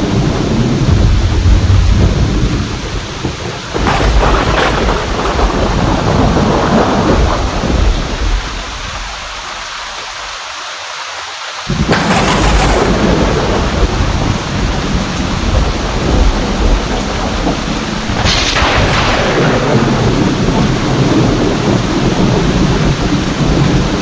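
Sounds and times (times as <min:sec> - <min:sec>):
sharp thunderclap: 0:00.0 - 0:09.2, 0:11.7 - 0:24.0
thunder rumbling: 0:00.0 - 0:10.1, 0:11.7 - 0:24.0
heavy rain: 0:00.0 - 0:24.0.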